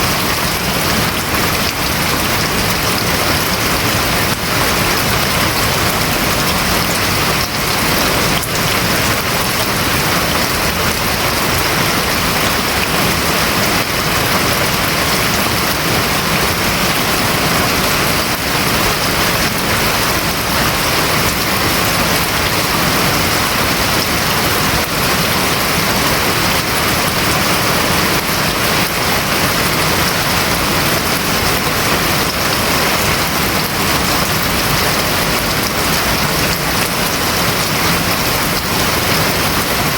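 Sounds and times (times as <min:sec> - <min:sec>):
heavy rain drumming on roof: 0:00.0 - 0:39.9.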